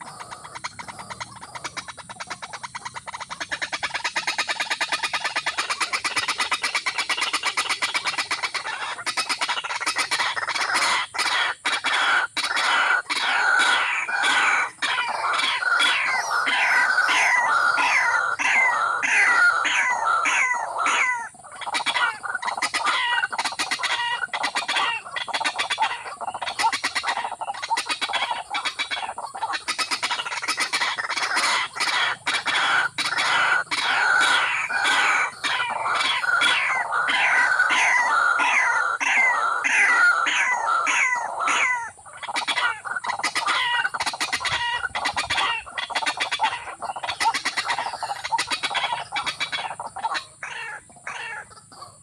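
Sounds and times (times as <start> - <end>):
birds chirping and clucking: 0.0 - 52.0.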